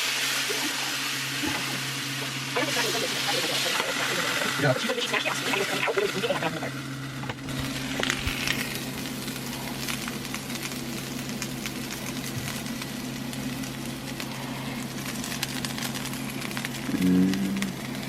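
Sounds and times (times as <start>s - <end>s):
low hum: 0.0s - 18.0s
tacos sizzling with pops: 0.0s - 18.0s.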